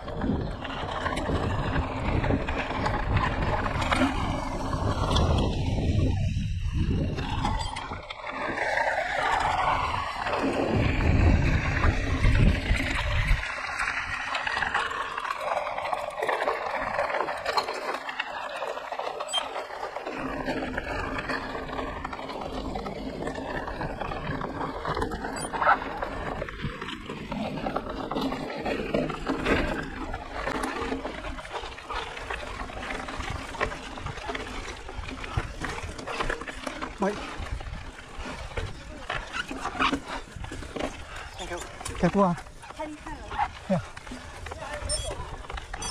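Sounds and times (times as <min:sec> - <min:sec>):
mountain bike riding noise: 0:00.0 - 0:45.9
small rattles and clicks: 0:00.0 - 0:45.9.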